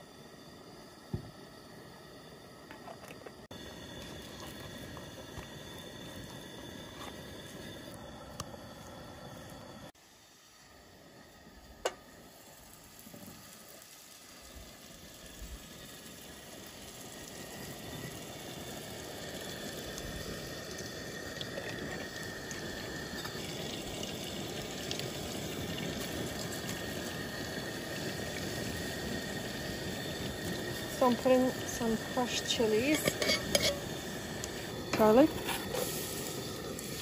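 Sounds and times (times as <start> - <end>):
oil sizzling in a pot: 0.0 - 37.0.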